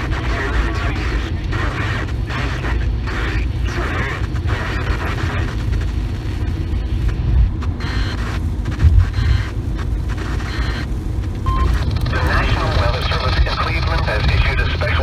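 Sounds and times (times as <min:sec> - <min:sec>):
moving car rumble: 0:00.0 - 0:15.0.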